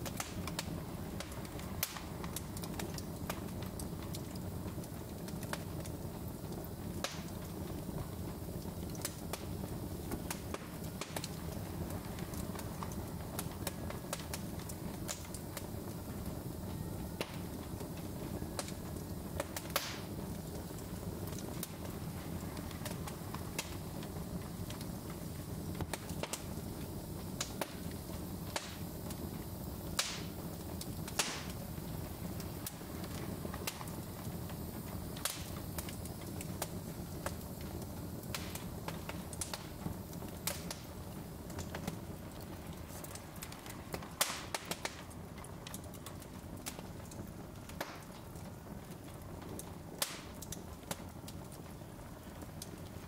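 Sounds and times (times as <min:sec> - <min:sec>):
low rumble of burning logs: 0:00.0 - 0:53.0
wood fire crackling and popping: 0:00.0 - 0:53.0.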